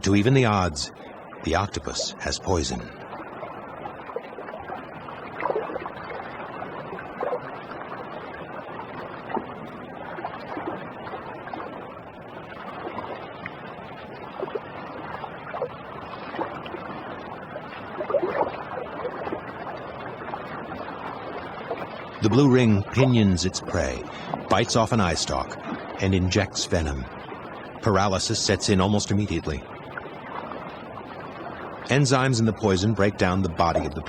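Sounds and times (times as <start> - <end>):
water sloshing: 0.1 - 34.0.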